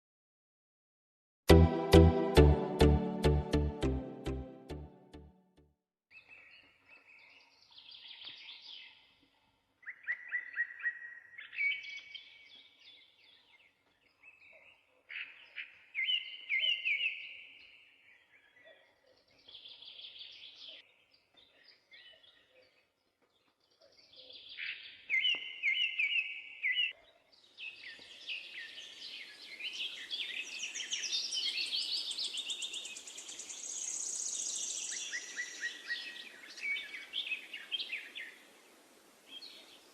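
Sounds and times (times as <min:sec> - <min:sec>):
songbirds chirping: 0:06.1 - 0:39.9.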